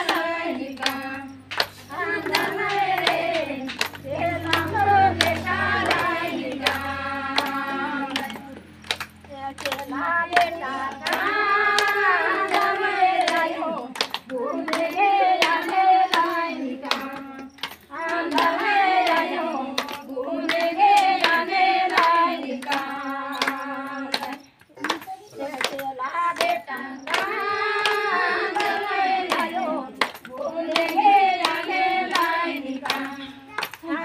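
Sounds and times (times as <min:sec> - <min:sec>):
hands clapping in a beat: 0:00.0 - 0:34.0
women singing together: 0:00.0 - 0:34.0.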